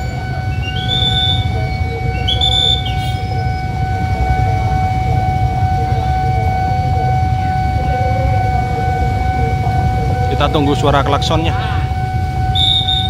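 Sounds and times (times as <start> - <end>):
electric train rolling: 0.0 - 13.0
steady high-pitched tone: 0.0 - 13.0.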